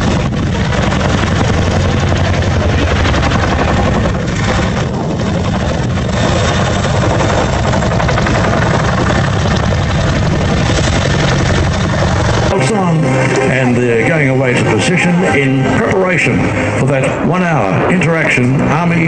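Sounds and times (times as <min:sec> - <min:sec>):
helicopter engine noise: 0:00.0 - 0:19.0
helicopter rotor blade chop: 0:00.0 - 0:19.0.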